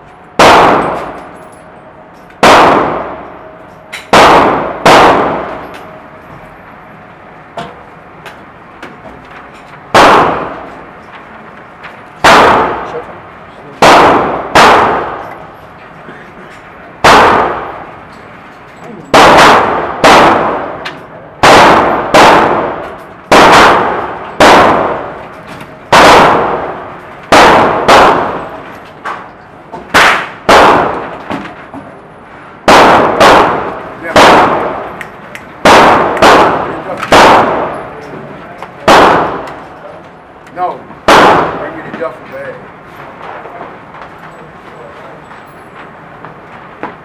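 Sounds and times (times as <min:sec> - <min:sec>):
gunshots echoing indoors: 0:00.0 - 0:08.8, 0:09.9 - 0:11.1, 0:12.0 - 0:31.6, 0:32.2 - 0:44.2.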